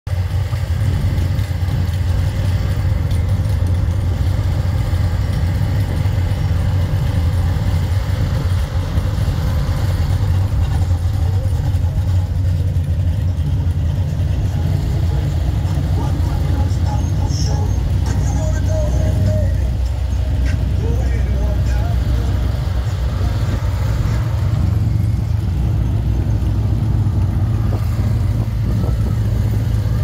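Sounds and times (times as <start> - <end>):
car engines idling: 0.0 - 30.0.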